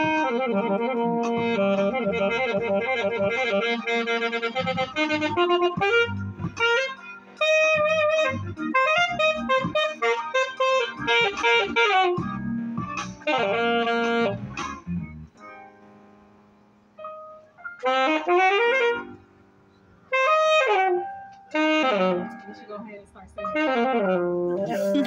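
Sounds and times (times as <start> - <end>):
saxophone melody: 0.0 - 15.4, 17.0 - 25.0.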